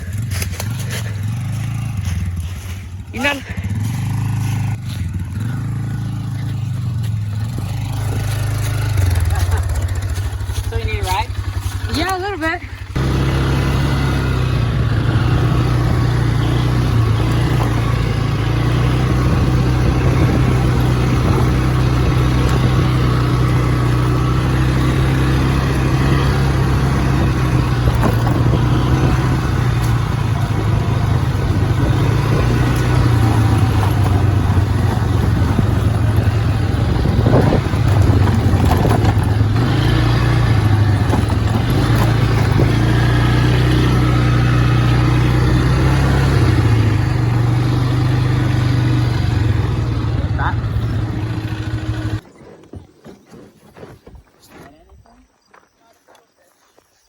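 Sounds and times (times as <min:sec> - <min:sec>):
atv engine running: 0:00.0 - 0:53.2.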